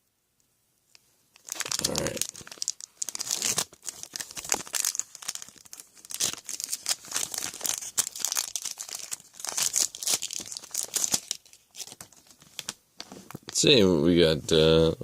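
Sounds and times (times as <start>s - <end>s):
card pack wrapper crinkling and tearing: 1.4s - 13.6s.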